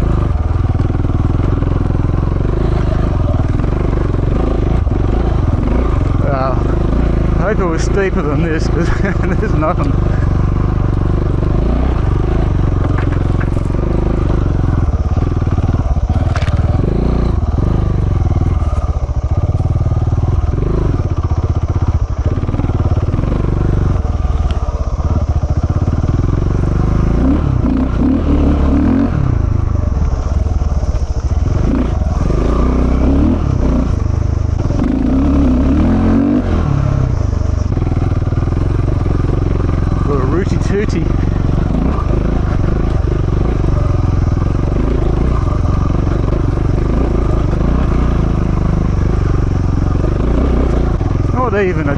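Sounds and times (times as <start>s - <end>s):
motorcycle engine under load: 0.0s - 51.9s.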